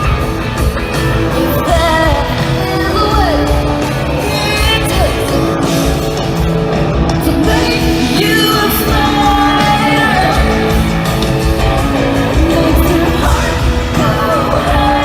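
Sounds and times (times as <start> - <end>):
woman singing lead: 0.0 - 6.4, 7.1 - 15.0
live country-rock band: 0.0 - 15.0.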